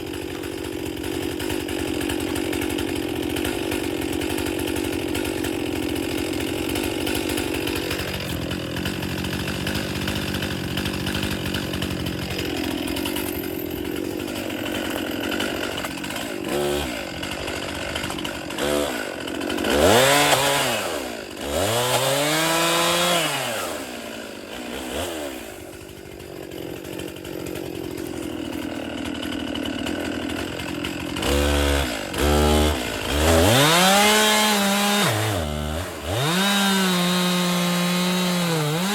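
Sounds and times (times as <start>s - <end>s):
chainsaw cutting wood: 0.0s - 38.9s
chainsaw revving: 0.0s - 38.9s.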